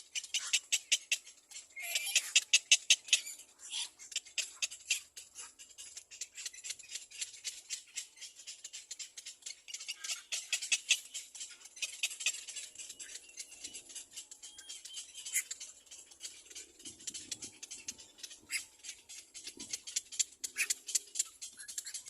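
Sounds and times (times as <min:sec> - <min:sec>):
cormorant chick chittering: 0:00.0 - 0:22.0.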